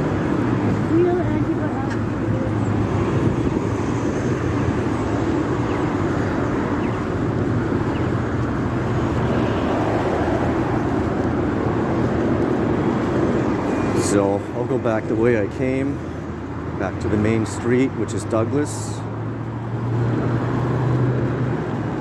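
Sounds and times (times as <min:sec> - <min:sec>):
car engines and tyres: 0:00.0 - 0:22.0.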